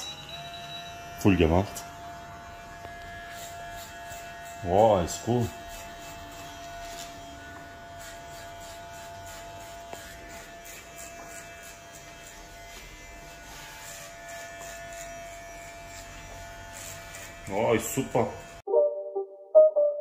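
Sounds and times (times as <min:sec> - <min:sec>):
electric hair clipper whining: 0:00.0 - 0:18.7.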